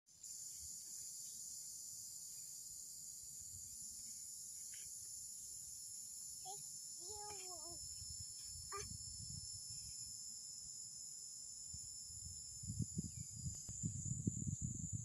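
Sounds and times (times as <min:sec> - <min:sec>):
chorus of insects droning: 0:00.1 - 0:15.0.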